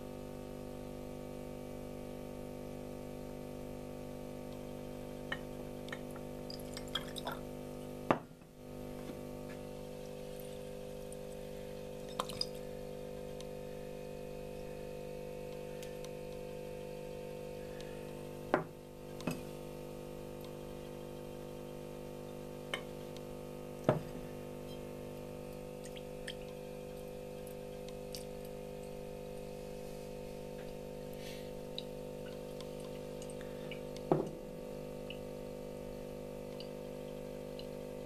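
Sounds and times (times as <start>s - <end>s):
vacuum pump humming: 0.0s - 38.0s.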